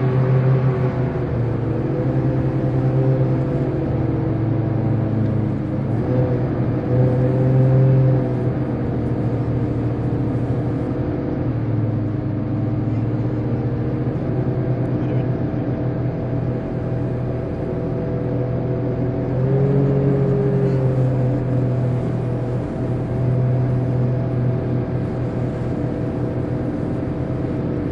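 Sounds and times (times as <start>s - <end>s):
hovercraft engines droning: 0.0s - 27.9s.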